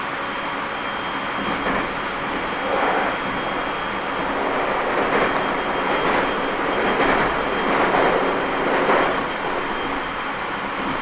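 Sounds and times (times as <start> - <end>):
train wheel-on-rail running noise: 0.0 - 11.0.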